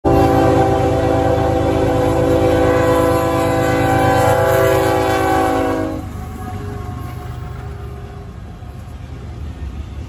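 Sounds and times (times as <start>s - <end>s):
locomotive air horn blast: 0.0s - 8.4s
train rumbling: 0.0s - 10.0s.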